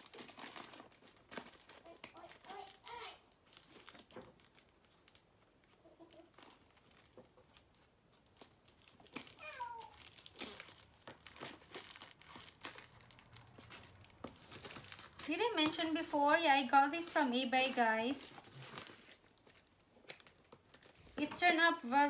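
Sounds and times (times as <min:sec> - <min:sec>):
plastic crinkling and rustling: 0:00.0 - 0:22.0.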